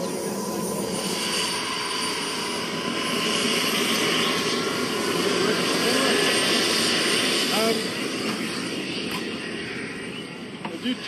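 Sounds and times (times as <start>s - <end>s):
model jet engine running: 0.0s - 11.0s.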